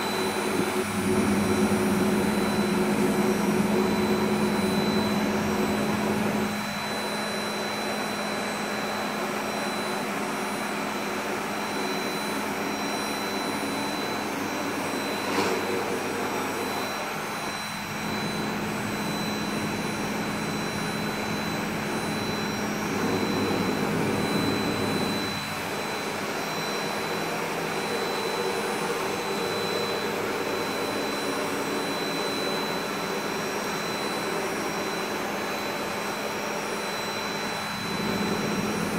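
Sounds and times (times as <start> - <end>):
milling spindle whine: 0.0 - 38.9.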